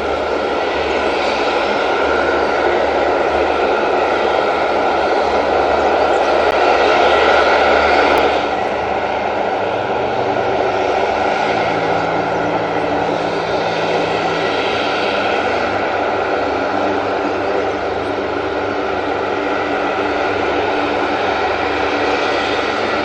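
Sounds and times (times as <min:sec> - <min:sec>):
turboprop engines running: 0:00.0 - 0:23.0.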